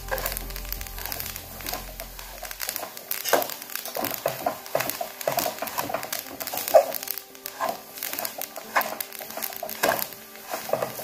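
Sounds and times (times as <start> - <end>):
metal turner scraping pan: 0.0 - 11.0
seeds rattling against pan: 0.0 - 11.0.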